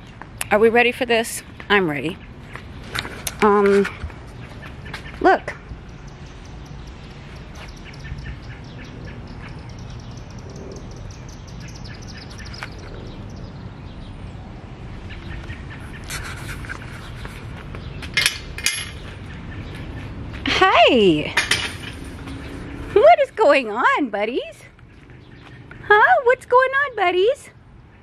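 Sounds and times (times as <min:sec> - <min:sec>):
faint outdoor background: 0:00.0 - 0:28.0.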